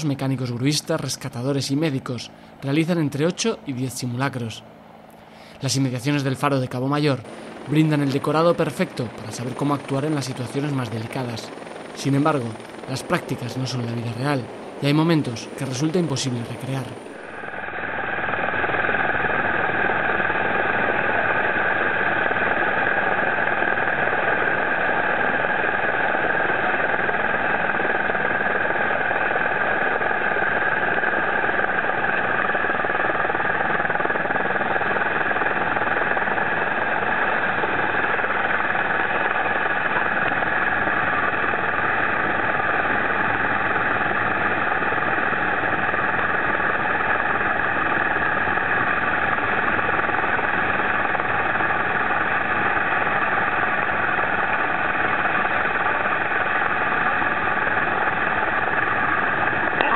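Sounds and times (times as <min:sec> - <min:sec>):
helicopter turbine and rotor drone: 0:00.0 - 0:59.9.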